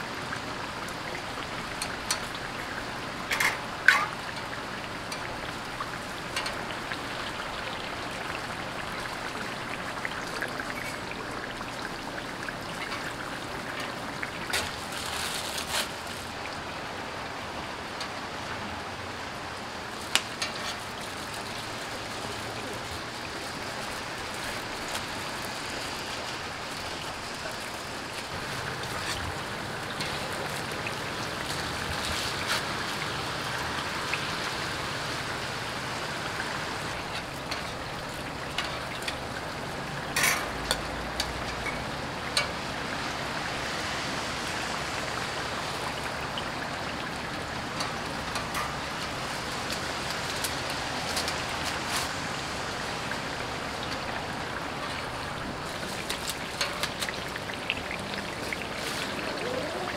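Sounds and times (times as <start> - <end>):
pancakes sizzling in oil: 0.0 - 16.8, 19.6 - 59.9.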